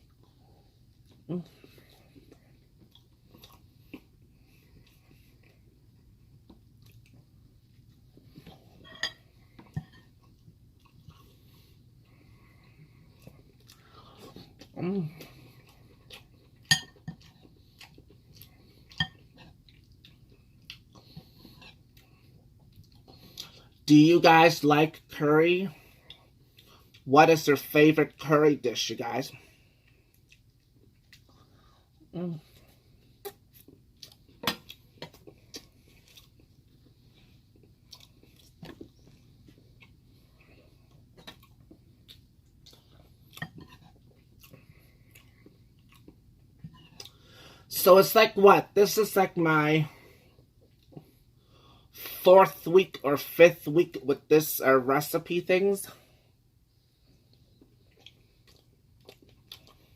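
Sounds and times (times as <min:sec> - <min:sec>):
soft chewing: 0:00.0 - 0:24.0, 0:24.8 - 0:27.1, 0:28.0 - 0:47.7, 0:49.5 - 0:52.2, 0:55.9 - 0:59.9.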